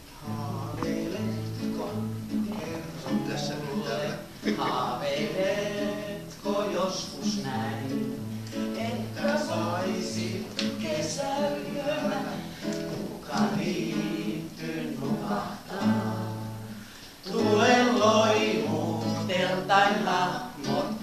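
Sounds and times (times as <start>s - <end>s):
acoustic guitar strumming: 0.0s - 21.0s
group singing along: 0.0s - 21.0s
man singing: 0.0s - 21.0s.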